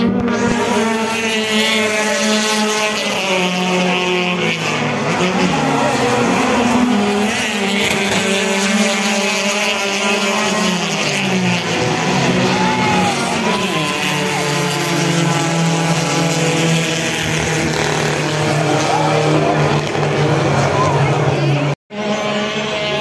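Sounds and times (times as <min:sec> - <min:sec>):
race car engines: 0:00.0 - 0:23.0.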